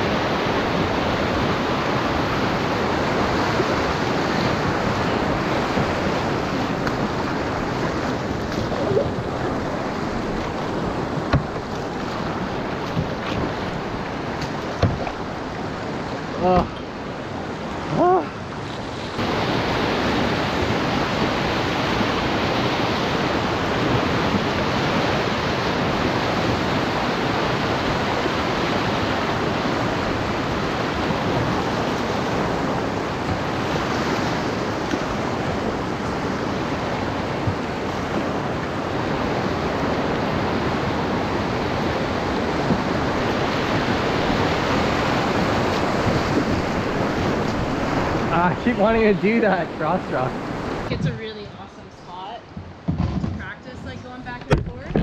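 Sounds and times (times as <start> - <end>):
whitewater rapids rushing: 0.0 - 51.9.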